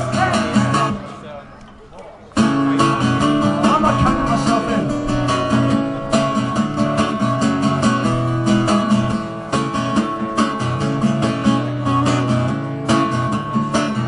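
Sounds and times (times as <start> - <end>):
acoustic guitar strumming: 0.0 - 1.1, 2.4 - 14.0.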